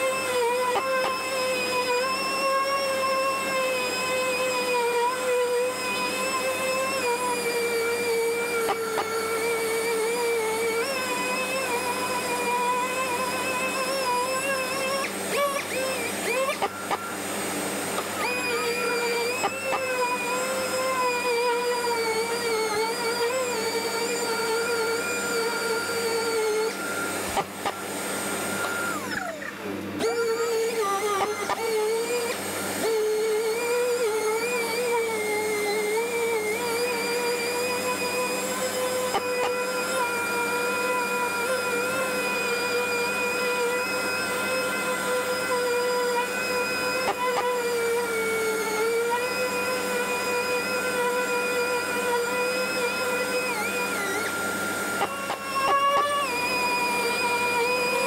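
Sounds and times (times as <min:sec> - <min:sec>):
orbital sander whining: 0:00.0 - 0:58.0.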